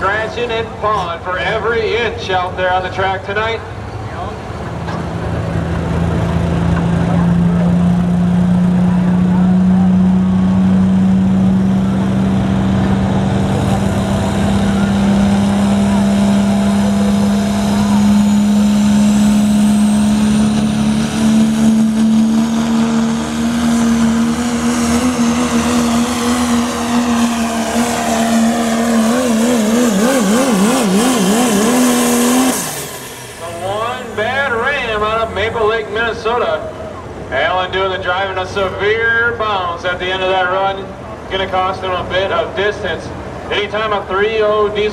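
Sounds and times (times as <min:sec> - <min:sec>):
diesel truck engine at high revs: 0:00.0 - 0:44.9.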